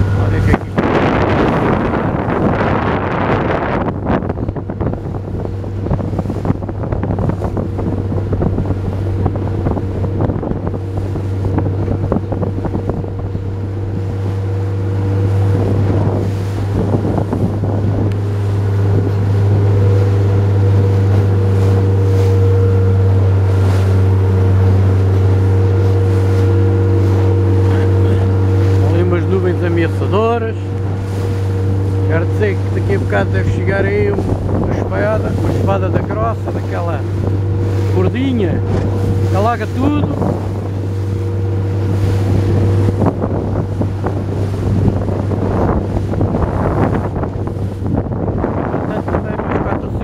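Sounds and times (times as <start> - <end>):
motorboat engine running: 0.0 - 50.0
water splashing against hull: 0.0 - 50.0
wind buffeting microphone: 0.0 - 50.0.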